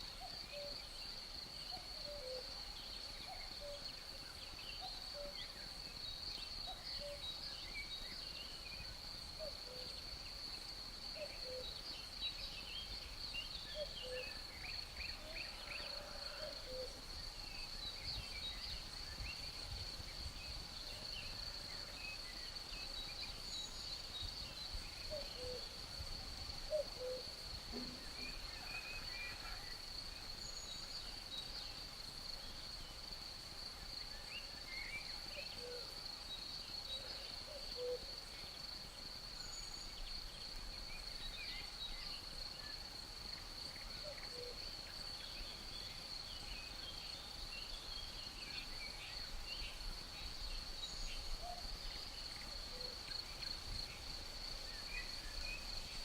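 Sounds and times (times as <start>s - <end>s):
crickets trilling: 3.5s - 56.0s.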